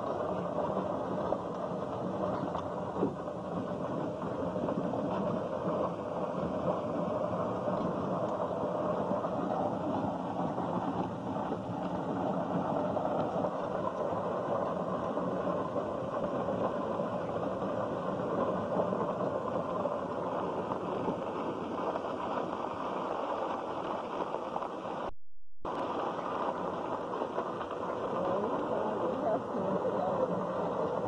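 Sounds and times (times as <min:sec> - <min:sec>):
wheels on gravel: 0:00.0 - 0:25.1, 0:25.7 - 0:31.0.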